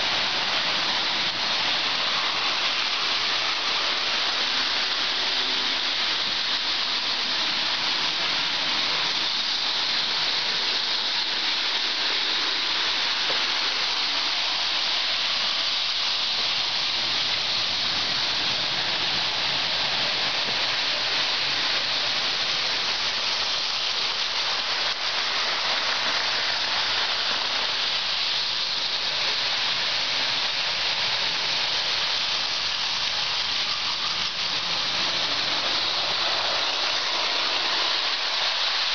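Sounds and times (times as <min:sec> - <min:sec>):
model trains rolling on track: 0:00.0 - 0:38.9.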